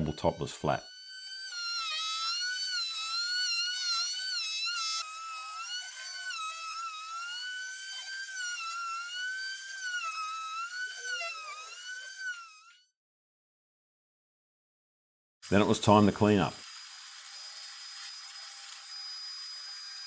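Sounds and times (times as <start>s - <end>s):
electric router whining: 0.0s - 12.8s, 16.4s - 20.0s.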